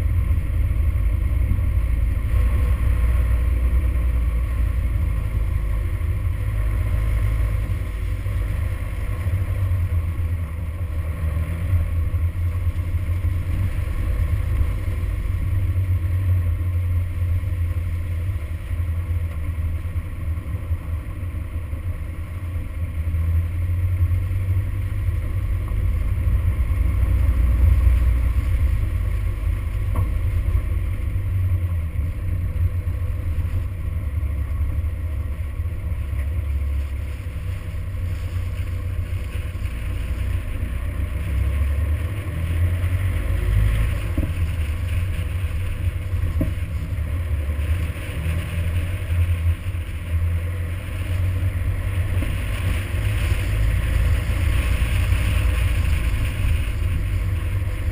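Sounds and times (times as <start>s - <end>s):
vehicle rumbling on gravel: 0.0s - 57.9s.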